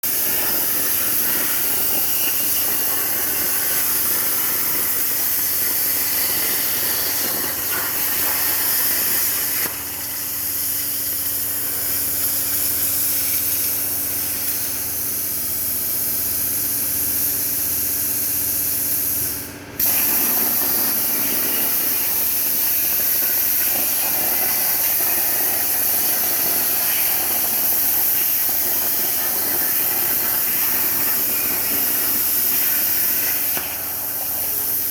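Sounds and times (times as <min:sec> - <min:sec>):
plasma cutter torch hissing: 0:00.0 - 0:34.9.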